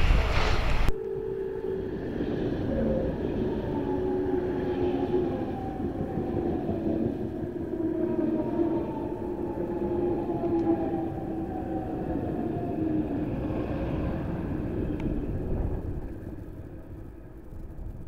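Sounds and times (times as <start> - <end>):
train whining tones: 0.0 - 17.8
wind buffeting microphone: 0.0 - 18.0.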